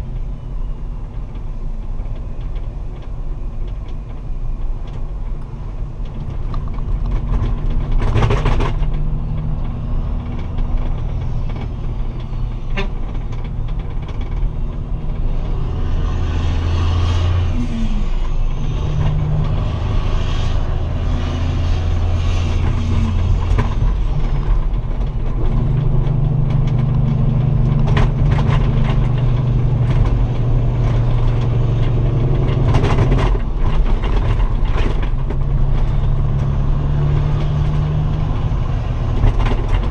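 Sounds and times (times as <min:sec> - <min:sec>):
loud diesel truck engine: 0:04.4 - 0:39.9.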